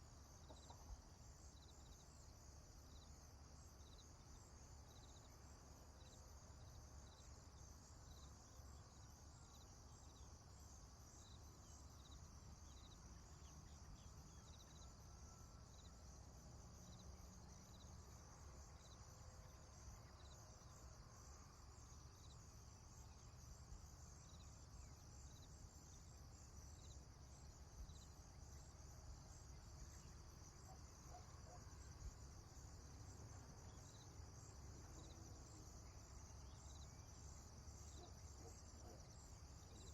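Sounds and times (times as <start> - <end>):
cricket chirping: 0.0 - 39.9
insects chorus: 0.0 - 39.9.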